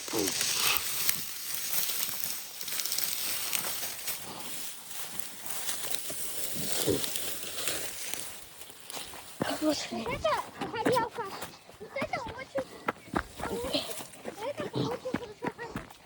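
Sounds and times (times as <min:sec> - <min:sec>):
footsteps crunching dry leaves: 0:00.0 - 0:10.4, 0:11.0 - 0:16.0.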